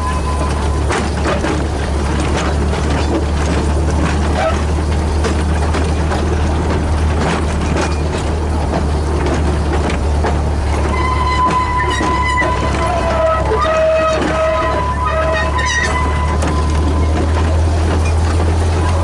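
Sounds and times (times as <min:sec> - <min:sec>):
model train running: 0:00.0 - 0:19.0
wheel clicks on track: 0:00.0 - 0:19.0.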